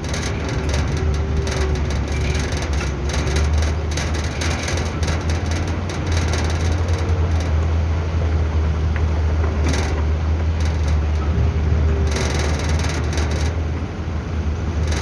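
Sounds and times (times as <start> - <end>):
diesel truck engine droning: 0.0 - 15.0
engine rattle: 0.0 - 15.0.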